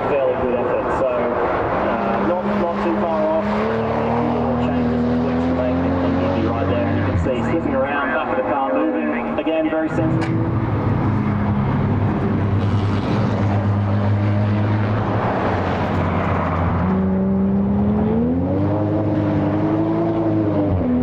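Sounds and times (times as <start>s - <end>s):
race car engine accelerating: 1.4s - 21.0s.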